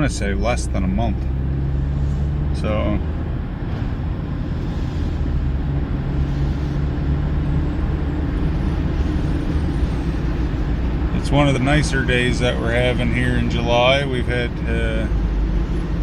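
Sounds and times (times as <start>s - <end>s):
car engine hum: 0.0s - 16.0s
road noise: 0.0s - 16.0s.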